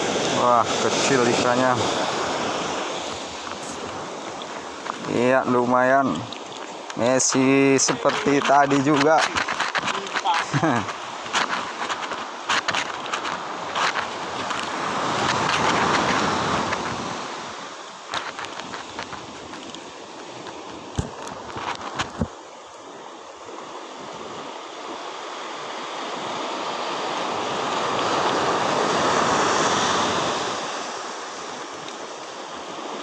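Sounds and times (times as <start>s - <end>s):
sea water lapping: 0.0s - 33.0s.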